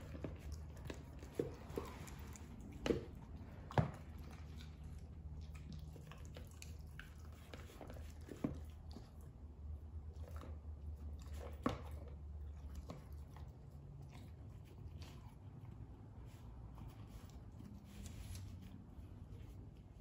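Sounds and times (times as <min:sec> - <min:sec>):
dog chewing: 0:00.0 - 0:18.8.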